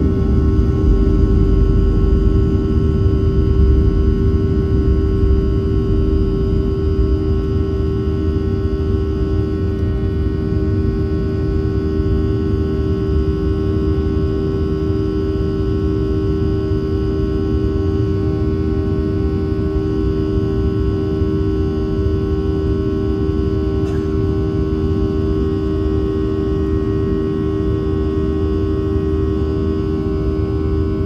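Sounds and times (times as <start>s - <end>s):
jet engines whining and rumbling: 0.0s - 31.0s.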